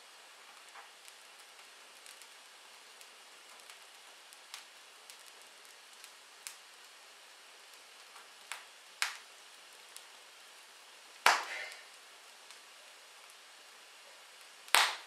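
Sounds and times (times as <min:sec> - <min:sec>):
wood fire crackling: 0:00.0 - 0:15.0
sharp pops from burning logs: 0:00.3 - 0:13.6, 0:14.2 - 0:15.0.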